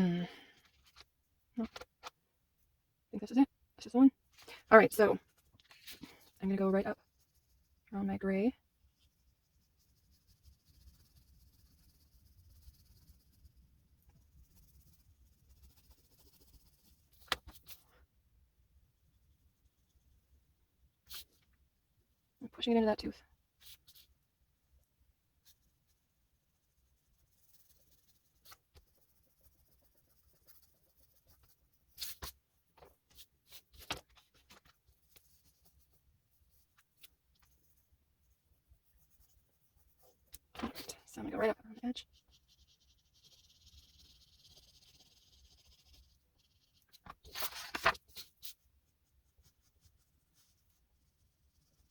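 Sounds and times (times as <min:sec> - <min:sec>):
oil pastel scratching on paper: 0:04.3 - 0:18.1, 0:21.0 - 0:21.5, 0:23.0 - 0:24.3, 0:25.3 - 0:51.9.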